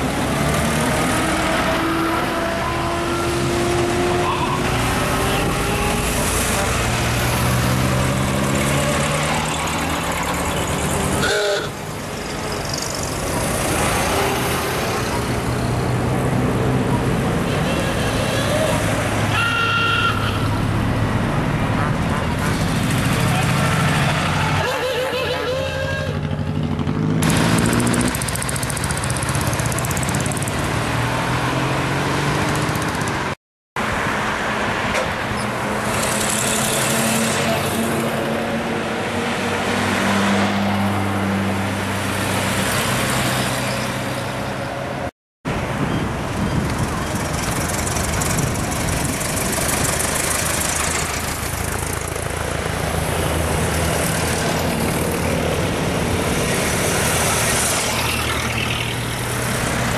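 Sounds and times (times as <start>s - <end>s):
old car engines passing: 0.0s - 19.3s, 20.2s - 44.6s, 45.6s - 59.9s
road and tyre noise: 0.0s - 59.9s.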